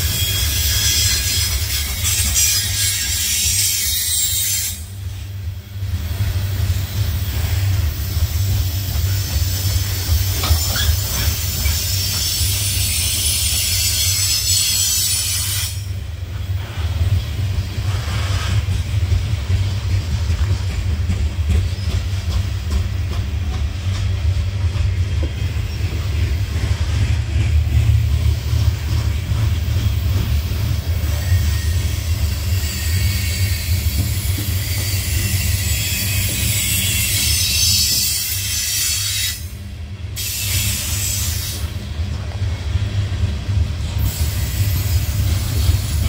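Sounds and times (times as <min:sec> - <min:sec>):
freight train rumbling: 0:00.0 - 0:46.0.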